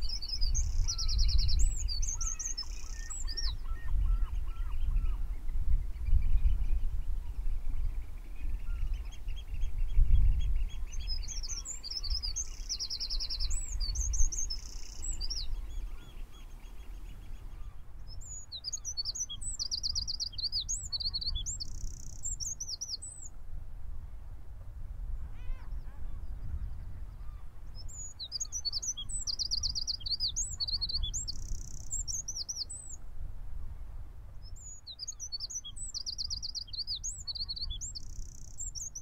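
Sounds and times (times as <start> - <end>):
songbird twittering with trills: 0.0 - 23.4, 25.4 - 33.0, 34.4 - 39.0.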